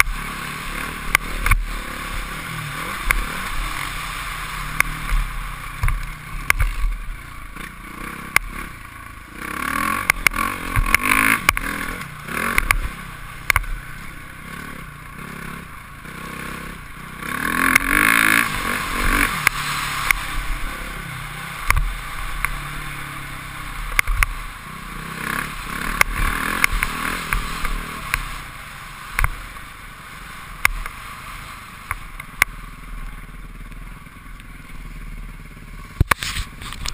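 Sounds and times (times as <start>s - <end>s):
motorbike engine revving: 0.0s - 36.9s.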